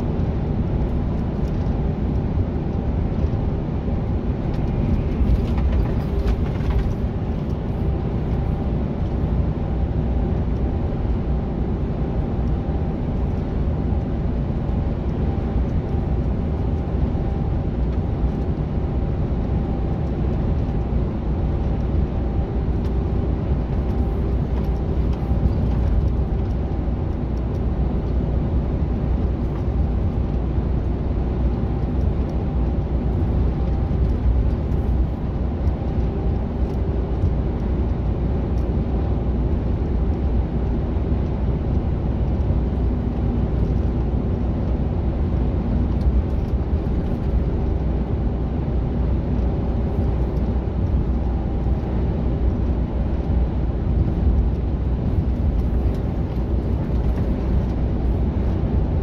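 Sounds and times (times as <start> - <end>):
road rumble: 0.0 - 59.0
truck engine drone: 0.0 - 59.0.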